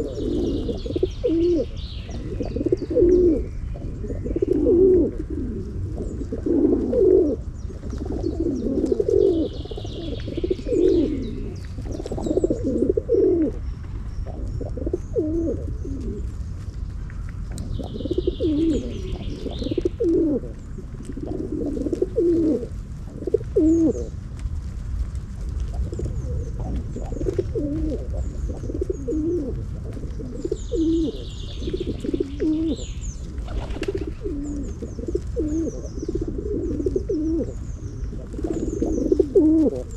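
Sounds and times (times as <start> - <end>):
pigeons cooing: 0.0 - 24.2, 25.6 - 39.9
small birds chirping: 0.0 - 24.4, 25.4 - 39.9
steady low rumble: 0.0 - 39.9.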